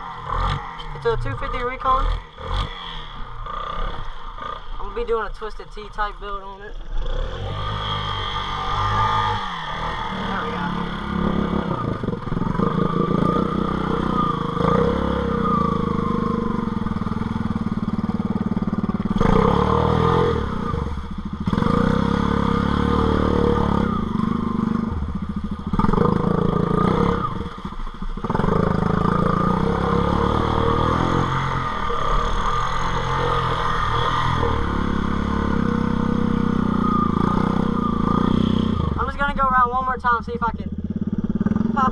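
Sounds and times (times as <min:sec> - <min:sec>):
quad bike engine revving: 0:00.0 - 0:05.2, 0:06.7 - 0:41.9.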